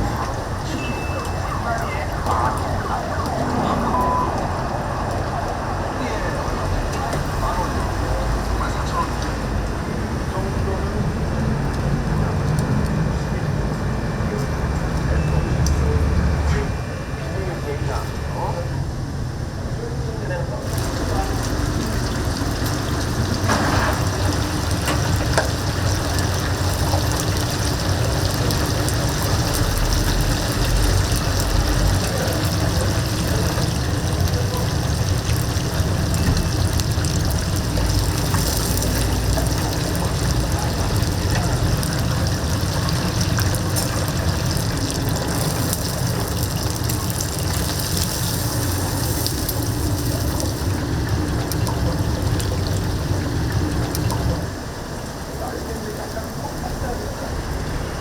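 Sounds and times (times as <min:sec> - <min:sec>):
deep-frying oil sizzling: 0:00.0 - 0:16.7, 0:20.6 - 0:58.0.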